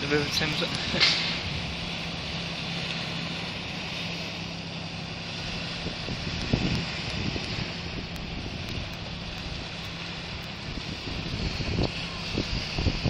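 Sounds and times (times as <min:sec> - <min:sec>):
distant boat engines droning: 0:00.0 - 0:13.0
wind rumbling on microphone: 0:00.0 - 0:13.0.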